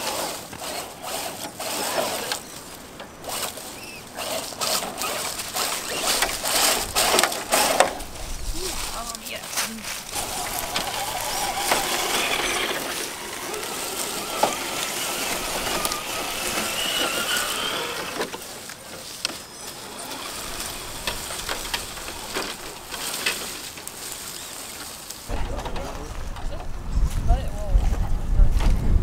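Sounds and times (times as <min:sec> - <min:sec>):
electric motor and gearbox whining: 0:00.0 - 0:27.2
tyres rustling through leaves: 0:00.0 - 0:29.0.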